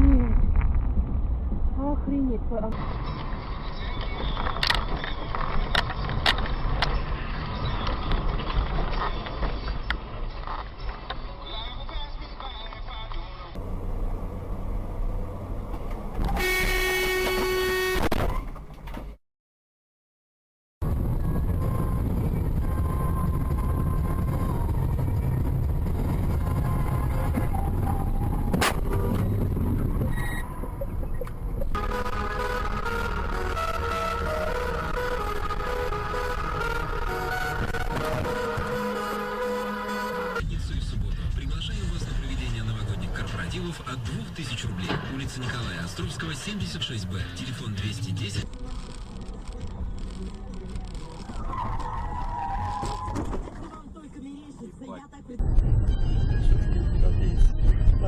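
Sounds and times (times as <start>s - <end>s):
car road and engine rumble: 0.0s - 19.2s, 20.8s - 58.0s.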